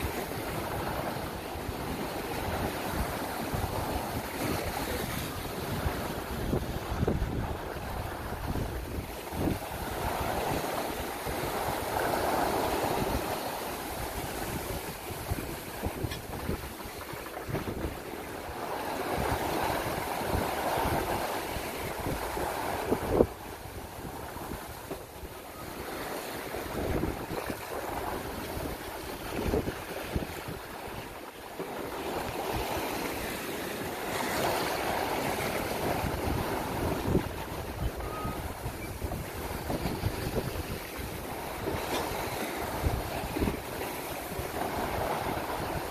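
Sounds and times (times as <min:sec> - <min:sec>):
bow wave rushing and foaming: 0:00.0 - 0:45.9
wind buffeting microphone: 0:00.0 - 0:45.9.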